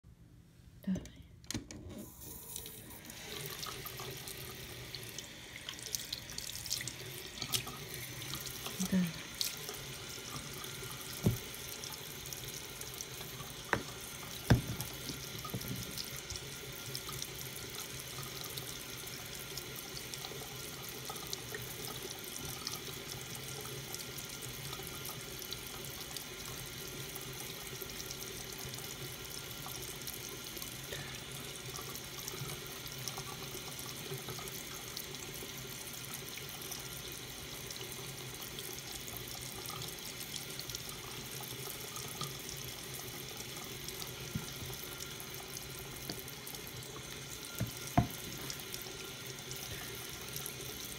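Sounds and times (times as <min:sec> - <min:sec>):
tap water running into sink: 0:02.0 - 0:50.9.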